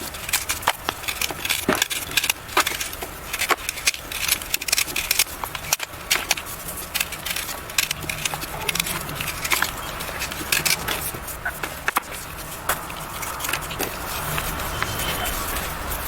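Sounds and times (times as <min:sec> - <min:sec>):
chalk being crushed: 0:00.0 - 0:16.0.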